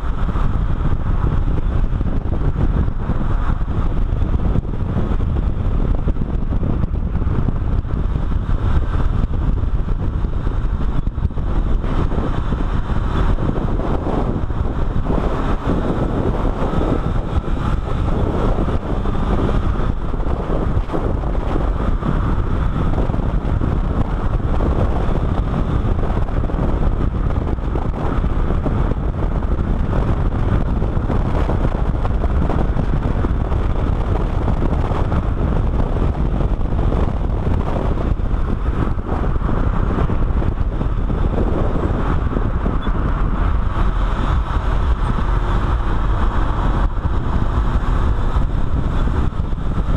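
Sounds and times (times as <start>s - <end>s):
car driving at speed: 0.0s - 49.9s
wind buffeting microphone: 0.0s - 49.9s.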